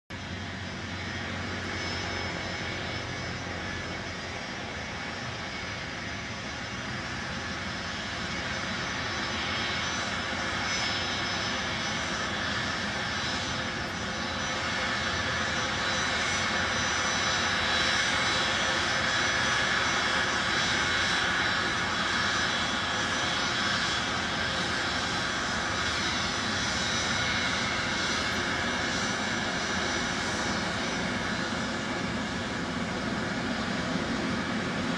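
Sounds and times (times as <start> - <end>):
jet engines whining: 0.1 - 34.9.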